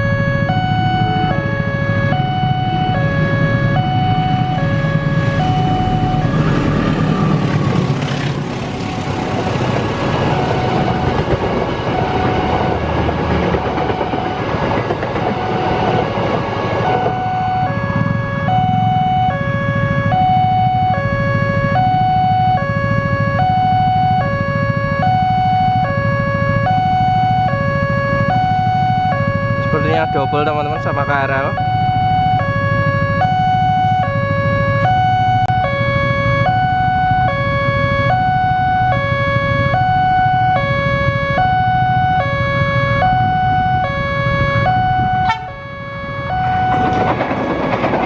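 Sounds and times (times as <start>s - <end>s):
passing train rumble: 0.0s - 48.0s
two-tone warning siren: 0.0s - 48.0s.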